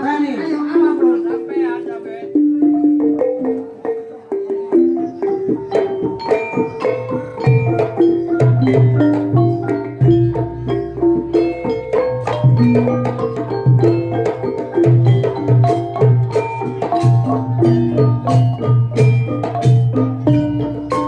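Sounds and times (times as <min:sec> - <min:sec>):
metal mallet instruments melody: 0:00.7 - 0:21.0
sharp percussion strokes: 0:02.3 - 0:21.0.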